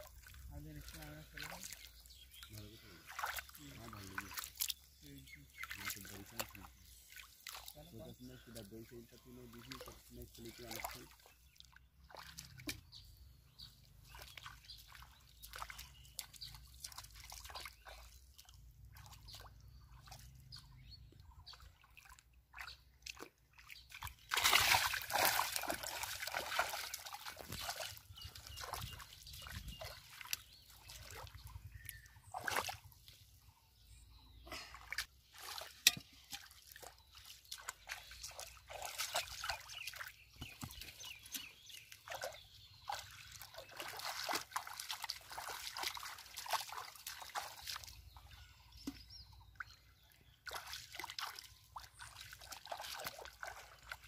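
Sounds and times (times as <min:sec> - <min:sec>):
muddy water splashing: 0:00.0 - 0:54.0.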